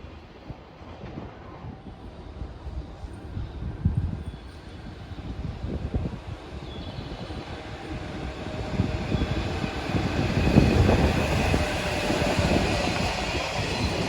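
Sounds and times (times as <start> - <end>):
train rumbling: 0.0 - 14.0
wind buffeting microphone: 0.0 - 14.0.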